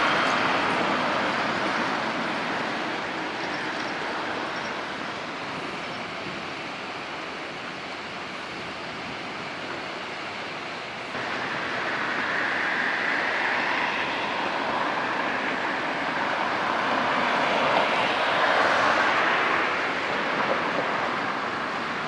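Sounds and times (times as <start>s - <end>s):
boat passing with rushing noise: 0.0s - 22.0s.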